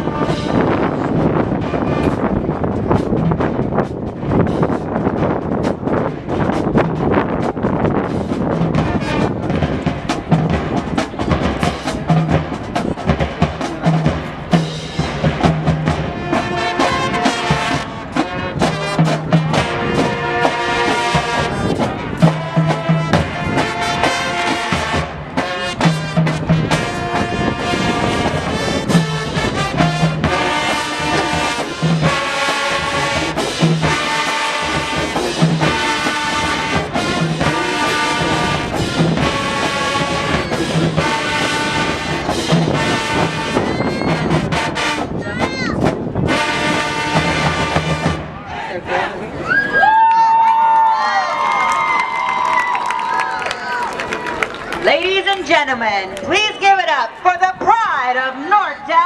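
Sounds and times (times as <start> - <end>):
marching band drums: 0.0 - 48.4
marching band brass: 0.0 - 49.4.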